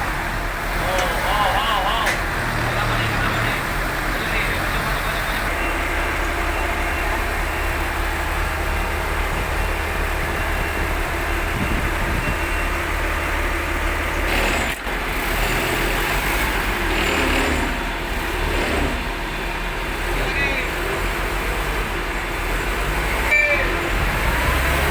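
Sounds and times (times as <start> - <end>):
heavy vehicle engine running: 0.0 - 24.9.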